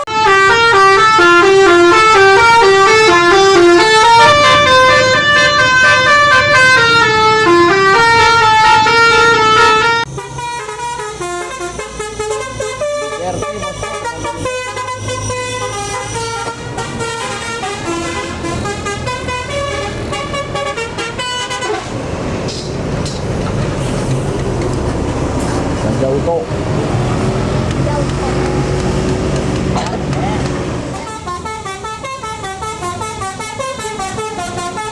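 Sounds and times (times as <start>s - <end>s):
bus musical horn tune: 0.0s - 22.1s, 27.2s - 34.9s
vehicle noise: 0.0s - 34.9s.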